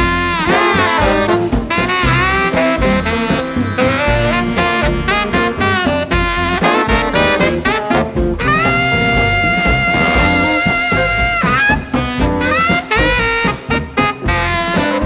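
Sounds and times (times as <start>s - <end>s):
blues band playing: 0.0s - 15.0s
saxophone lead: 0.0s - 15.0s.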